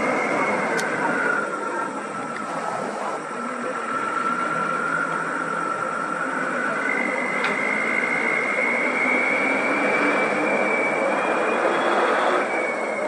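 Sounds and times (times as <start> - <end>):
diesel bus engine pulling away: 0.0 - 13.0
high whine rising in pitch: 0.0 - 13.0.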